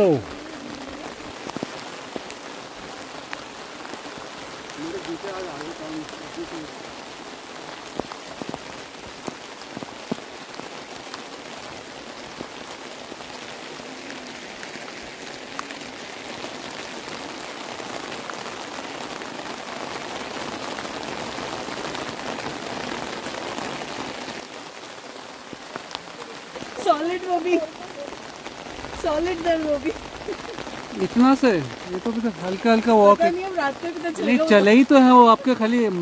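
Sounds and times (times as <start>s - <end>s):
heavy rain hiss: 0.0s - 36.0s
raindrops tapping umbrella: 0.0s - 36.0s.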